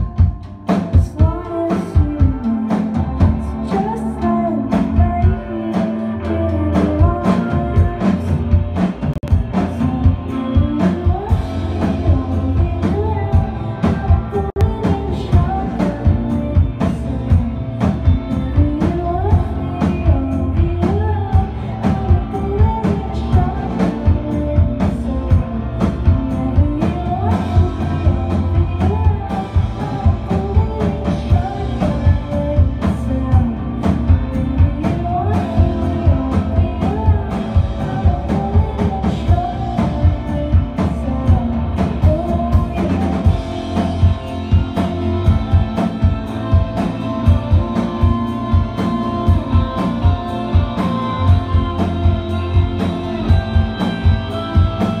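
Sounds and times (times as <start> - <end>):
live rock band playing: 0.0 - 55.0
woman singing: 0.0 - 55.0.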